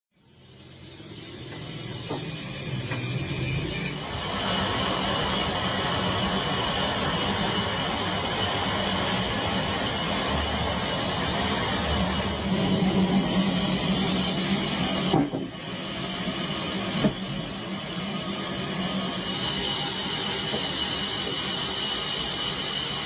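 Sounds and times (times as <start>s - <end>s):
machine noise with hiss: 0.2s - 23.0s.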